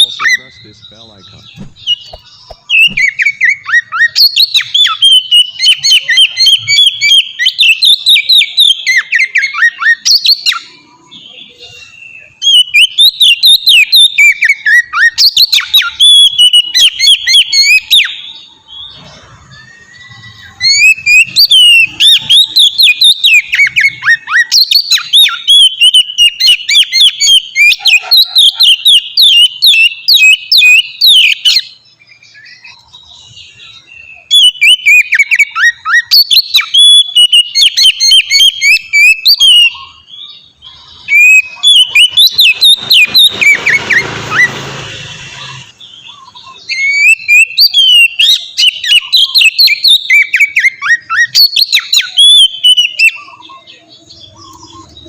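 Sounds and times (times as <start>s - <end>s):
bird singing whistled phrases: 0.0s - 44.6s, 45.2s - 55.0s.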